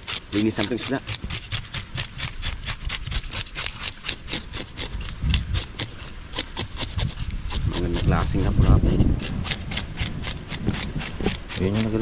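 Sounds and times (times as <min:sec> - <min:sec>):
knife scraping fish scales: 0:00.0 - 0:12.0.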